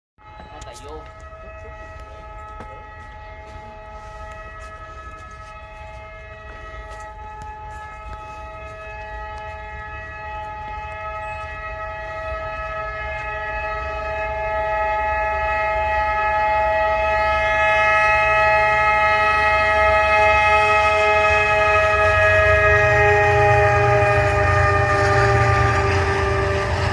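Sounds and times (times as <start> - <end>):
train horn: 0.2 - 26.9
train low rumble: 0.2 - 26.9.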